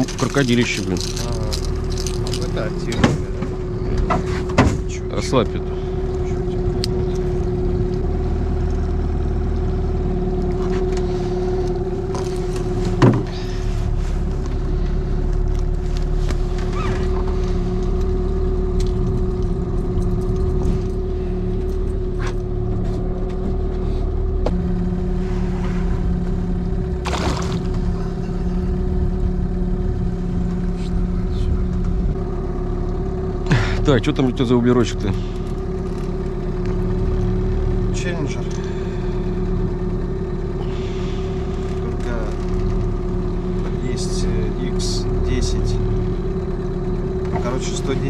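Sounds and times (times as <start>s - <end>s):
boat motor humming: 0.0s - 48.0s.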